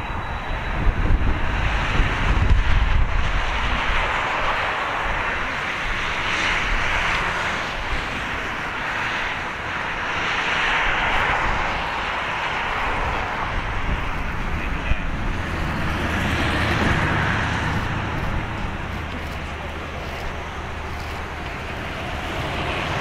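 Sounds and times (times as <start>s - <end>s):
jet engines running: 0.0s - 23.0s
wind rumble on microphone: 0.0s - 23.0s.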